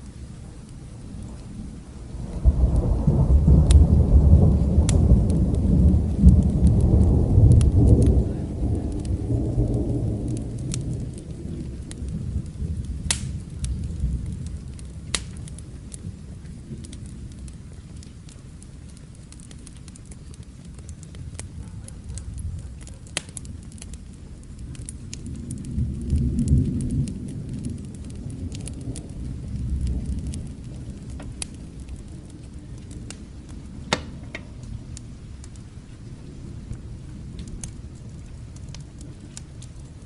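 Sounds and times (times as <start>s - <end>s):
thunder rumbling: 0.0s - 18.2s, 20.0s - 40.0s
steady rain: 0.0s - 40.0s
wood fire crackling: 0.0s - 40.0s.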